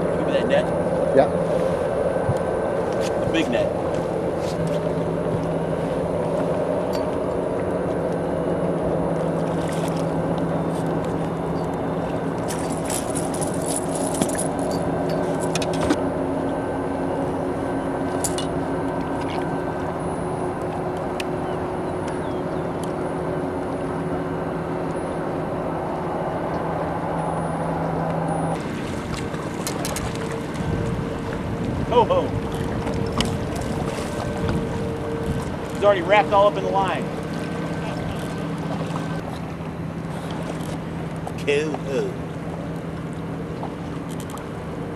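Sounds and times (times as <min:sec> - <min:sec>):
boat motor humming: 0:00.0 - 0:44.9.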